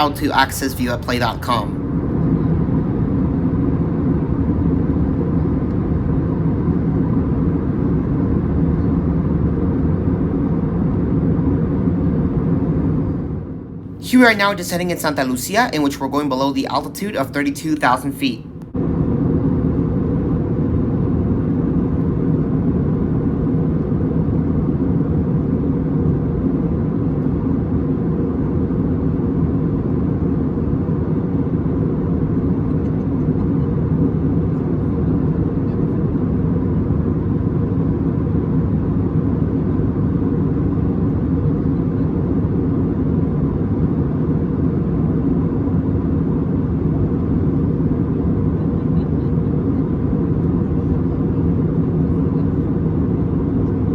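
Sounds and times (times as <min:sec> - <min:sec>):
airliner cabin hum: 0:00.0 - 0:53.9.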